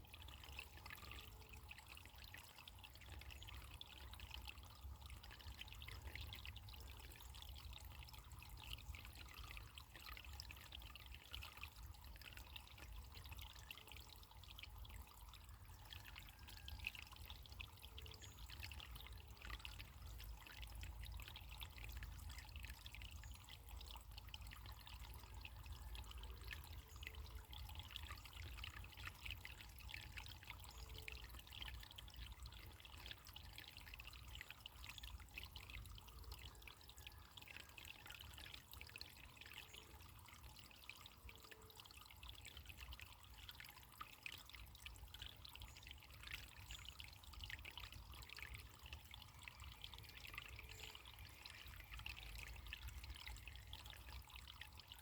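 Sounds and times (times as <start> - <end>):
trickle of running water: 0.0 - 55.0.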